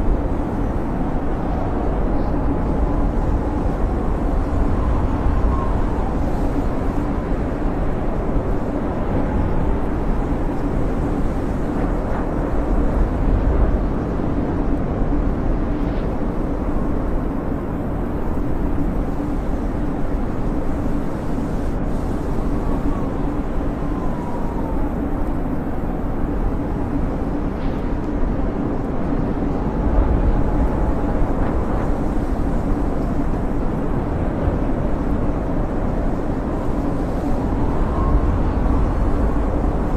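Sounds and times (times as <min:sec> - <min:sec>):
faint wind whistle: 0:00.0 - 0:39.9
low rumbling wind rush: 0:00.0 - 0:39.9.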